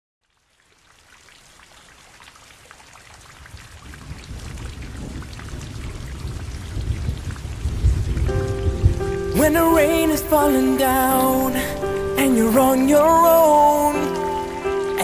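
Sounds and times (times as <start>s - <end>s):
rain falling: 0.2s - 15.0s.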